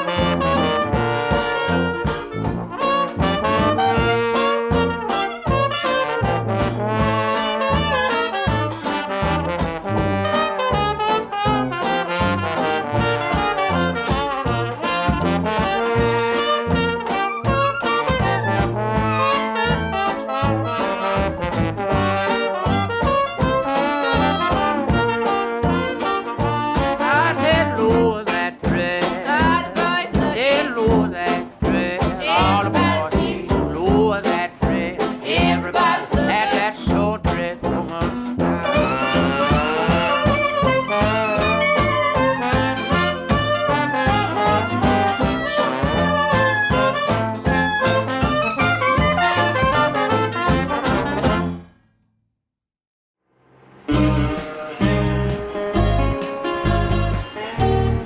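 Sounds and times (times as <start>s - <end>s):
swing jazz with brass: 0.0s - 51.7s, 53.9s - 58.0s.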